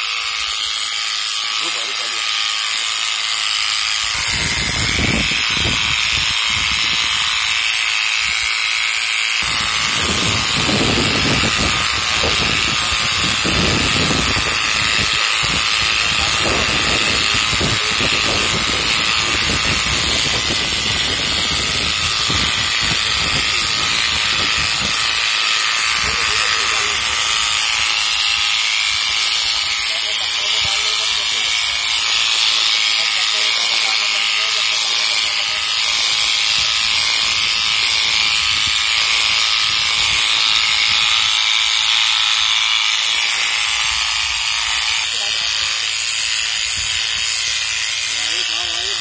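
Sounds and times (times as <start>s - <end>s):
electric clipper cutting fur: 0.0s - 49.0s.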